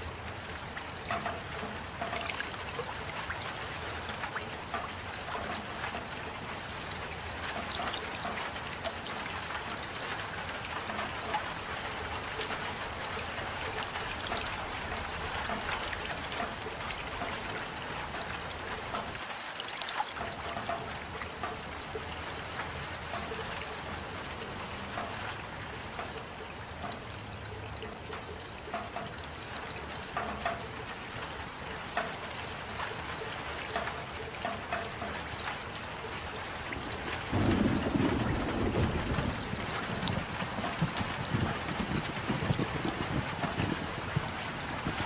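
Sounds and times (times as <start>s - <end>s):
raindrops ticking: 0.0s - 45.0s
steady rain falling: 0.0s - 45.0s.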